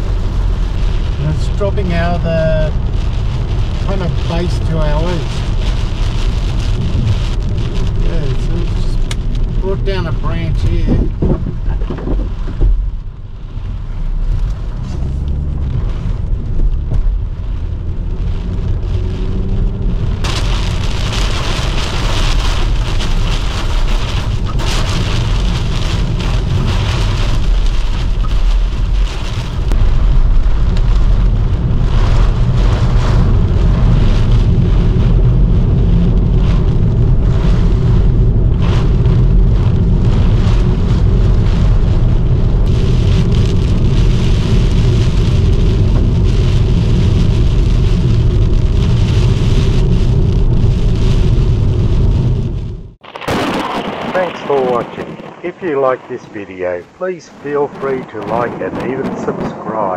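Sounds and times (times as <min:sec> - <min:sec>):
heavy rain on a car: 0:00.0 - 0:59.9
wind buffeting a car: 0:00.0 - 0:59.9.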